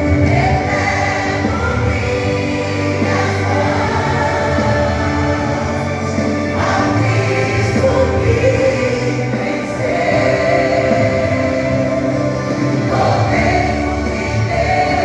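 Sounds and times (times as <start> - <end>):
vocal group singing gospel: 0.0 - 15.0.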